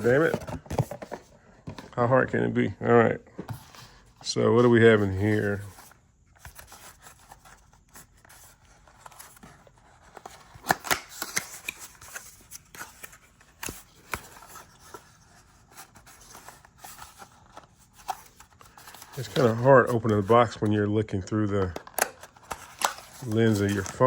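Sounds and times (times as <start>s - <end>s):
cardboard packaging rustling: 0.0s - 2.4s, 3.5s - 20.7s, 21.5s - 24.0s.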